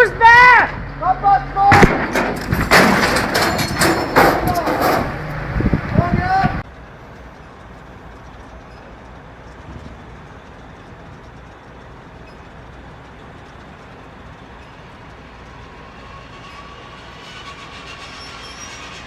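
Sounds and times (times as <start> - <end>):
heavy machinery rumbling: 0.0 - 19.0.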